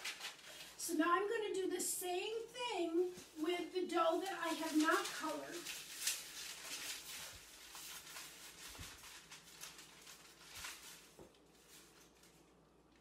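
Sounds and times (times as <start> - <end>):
parchment paper rustling: 0.0 - 12.6.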